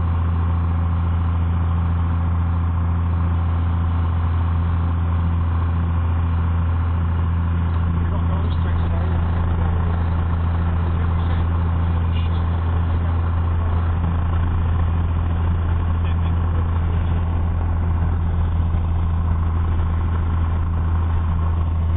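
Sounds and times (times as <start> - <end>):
aircraft engine droning: 0.0 - 21.9.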